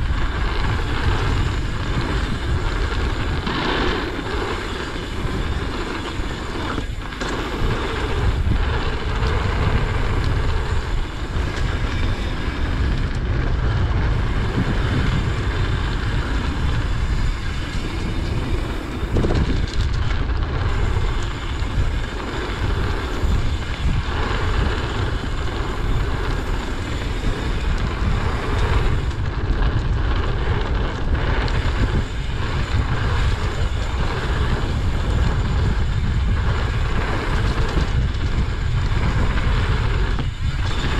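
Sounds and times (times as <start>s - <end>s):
tyres rumbling on dirt: 0.0s - 40.9s
wind rush on microphone: 0.0s - 40.9s.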